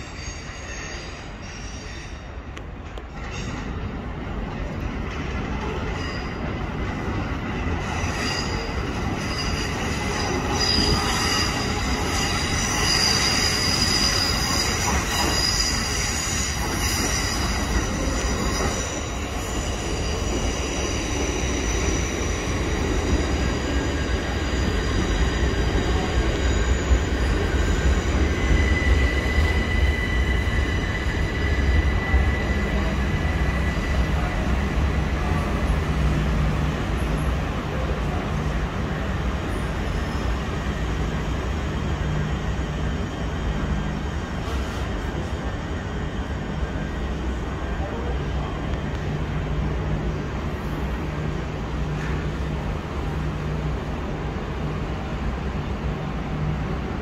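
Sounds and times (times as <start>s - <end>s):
train wheels squealing: 0.0s - 4.0s, 4.6s - 53.6s
train low rumble: 0.0s - 57.0s.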